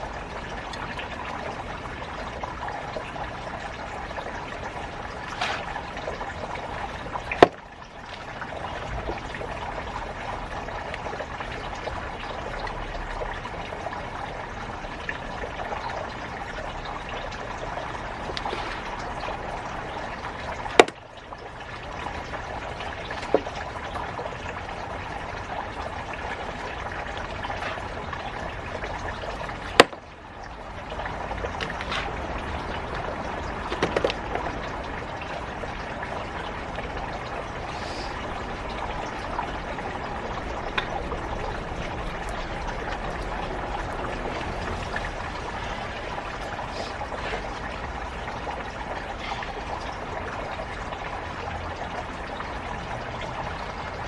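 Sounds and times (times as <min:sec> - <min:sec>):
water running and trickling: 0:00.0 - 0:54.0.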